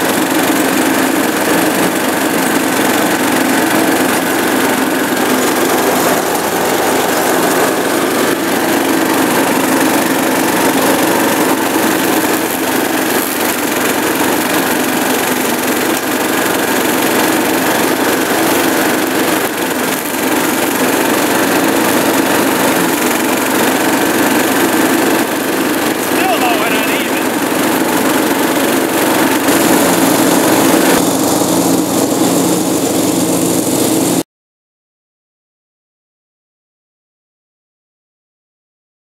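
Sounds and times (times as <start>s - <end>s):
riding lawnmower engine droning: 0.0s - 34.2s.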